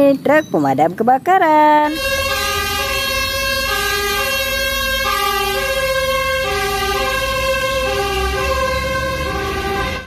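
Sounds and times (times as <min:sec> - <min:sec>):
low engine and traffic rumble: 0:00.0 - 0:10.0
fire engine two-tone siren: 0:01.9 - 0:10.0.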